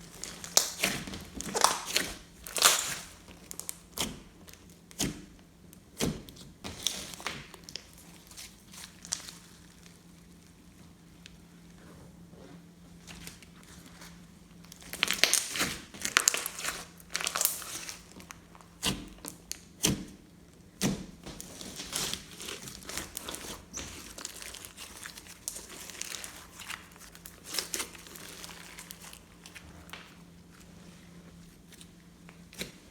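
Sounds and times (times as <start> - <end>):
hands squishing slime: 0.0 - 10.7, 14.7 - 20.2, 20.8 - 32.9.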